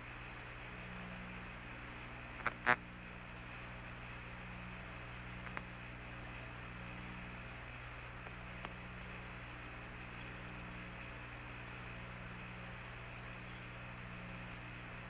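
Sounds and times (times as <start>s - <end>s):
radio hiss and hum: 0.0s - 15.0s.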